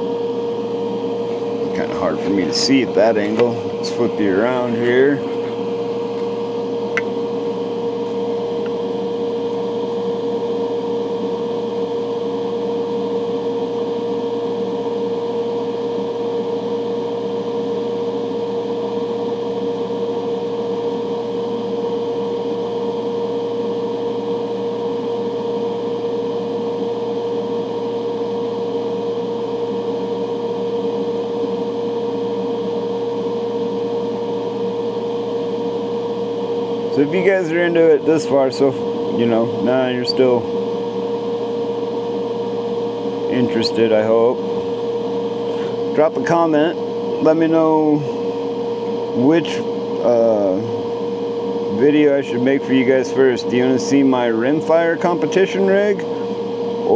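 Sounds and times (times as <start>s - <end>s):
extraction fan humming and whining: 0.0s - 56.9s.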